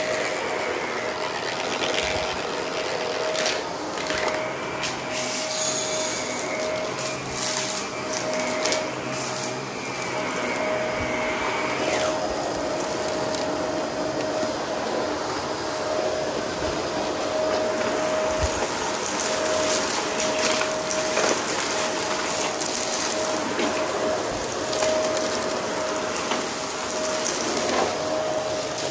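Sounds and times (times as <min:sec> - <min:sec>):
vacuum motor whine: 0:00.0 - 0:28.9.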